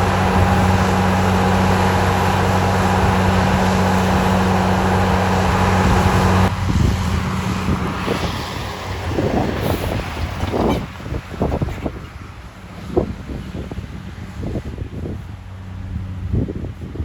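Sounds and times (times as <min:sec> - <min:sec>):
gusty wind on microphone: 0:00.0 - 0:17.0
heavy machinery engine humming: 0:00.0 - 0:17.0.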